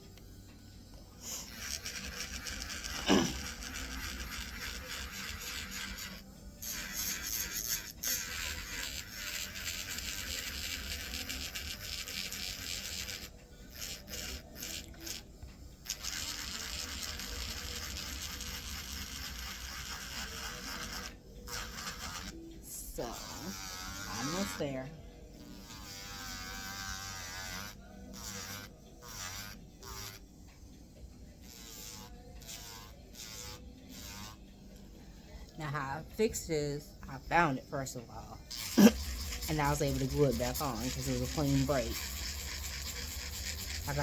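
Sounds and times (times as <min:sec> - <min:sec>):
electric nail drill buzzing: 0:00.0 - 0:34.5, 0:38.4 - 0:44.0.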